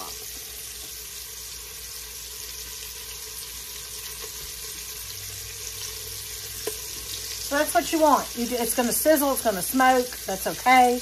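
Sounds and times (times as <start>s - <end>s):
meat sizzling in a pot: 0.0s - 11.0s.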